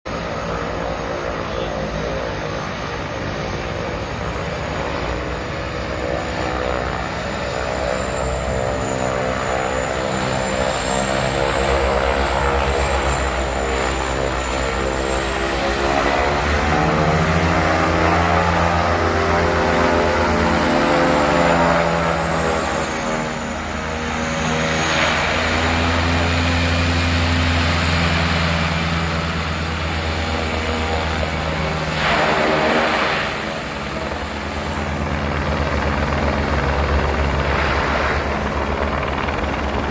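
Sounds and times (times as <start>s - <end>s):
turboprop engines running: 0.1s - 39.9s.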